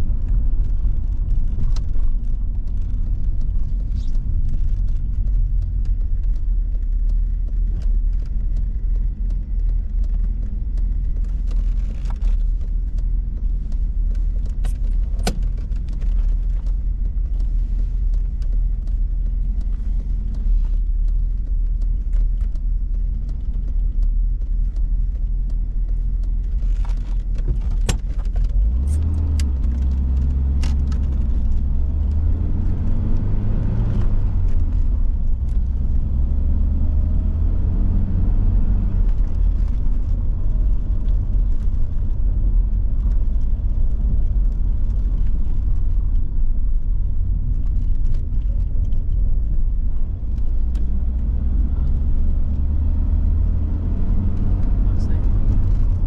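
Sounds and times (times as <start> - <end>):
car engine and road rumble: 0.0 - 56.0
sharp clicks and rattles: 0.0 - 56.0.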